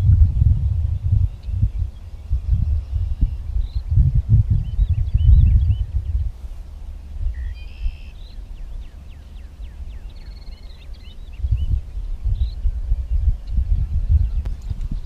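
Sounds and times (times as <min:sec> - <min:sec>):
birds chirping and trilling: 0:00.0 - 0:15.0
steady low rumble: 0:00.0 - 0:15.0.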